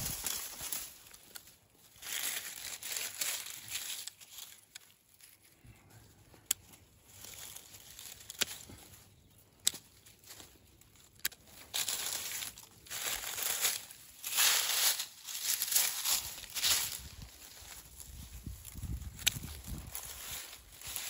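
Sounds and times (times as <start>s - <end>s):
crinkling rustling noise: 0.0s - 21.0s.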